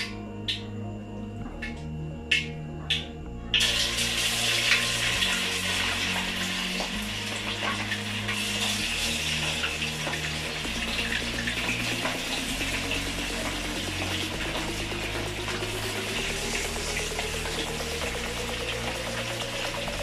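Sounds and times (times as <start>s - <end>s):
chicken sizzling in hot oil: 3.6s - 20.0s.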